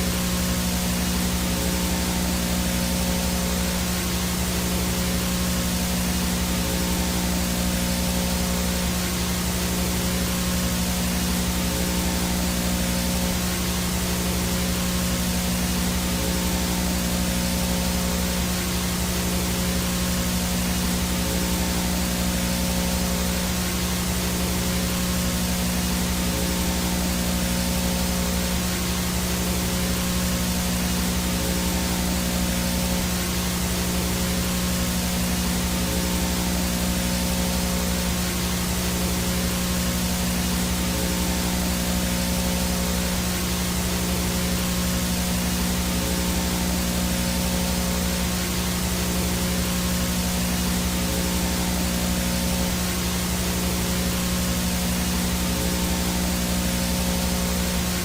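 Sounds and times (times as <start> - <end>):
low electrical hum: 0.0 - 58.0
static hiss: 0.0 - 58.0.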